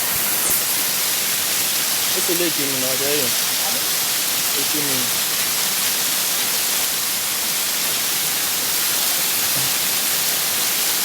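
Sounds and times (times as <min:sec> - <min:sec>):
waterfall rushing over rock: 0:00.0 - 0:11.0.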